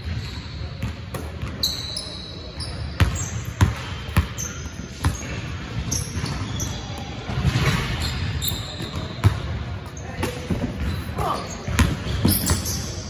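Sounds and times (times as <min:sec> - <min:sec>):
sneaker squeaks: 0:00.0 - 0:13.0.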